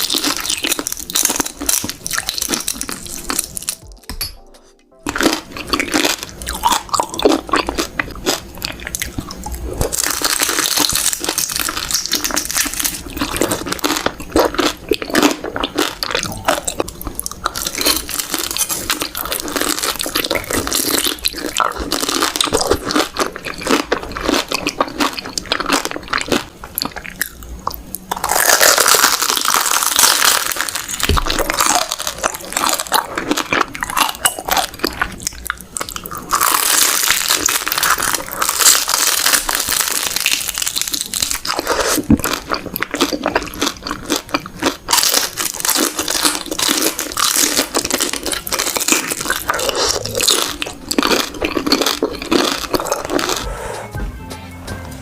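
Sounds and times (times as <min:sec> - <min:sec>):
crunchy chewing and biting: 0:00.0 - 0:04.0, 0:05.0 - 0:53.8.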